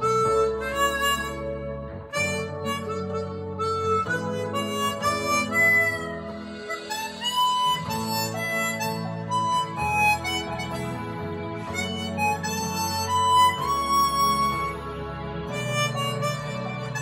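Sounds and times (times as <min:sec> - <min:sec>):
harmonica melody: 0:00.0 - 0:17.0
steady lower harmonica tones: 0:00.0 - 0:17.0.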